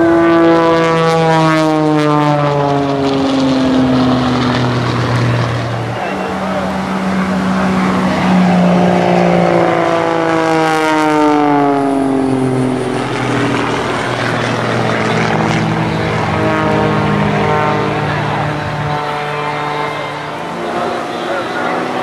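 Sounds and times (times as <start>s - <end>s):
propeller plane engine passing: 0.0s - 22.0s.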